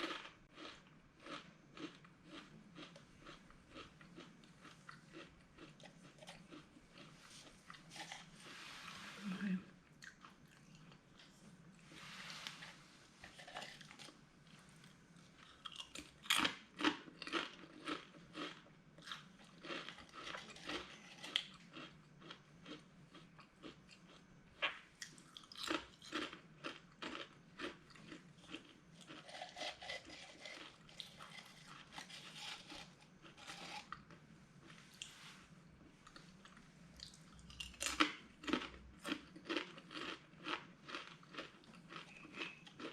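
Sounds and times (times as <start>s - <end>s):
person chewing crisp snack: 0.0s - 9.2s, 9.8s - 35.2s, 35.8s - 42.9s.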